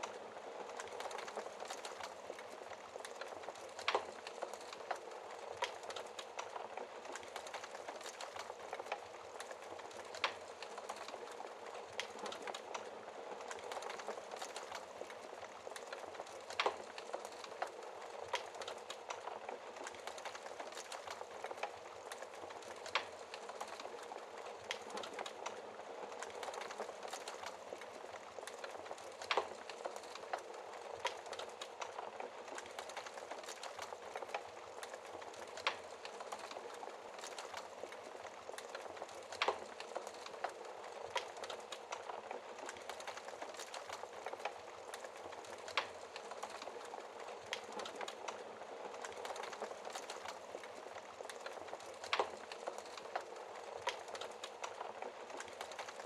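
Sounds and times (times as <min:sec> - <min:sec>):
crackles and pops of burning logs: 0:00.0 - 0:56.0.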